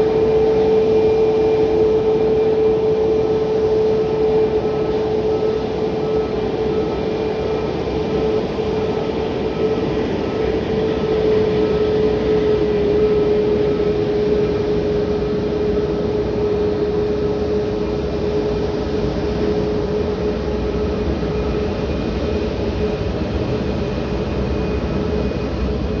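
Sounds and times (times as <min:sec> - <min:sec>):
jet engine rumble: 0:00.0 - 0:26.0
jet engine whine: 0:00.0 - 0:26.0.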